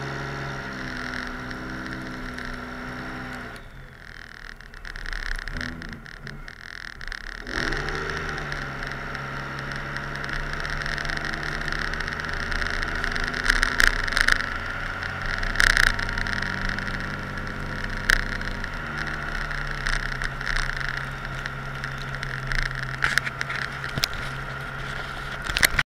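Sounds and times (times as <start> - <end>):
diesel pickup engine running: 0.0 - 25.8
sharp clicks and knocks: 0.4 - 25.8.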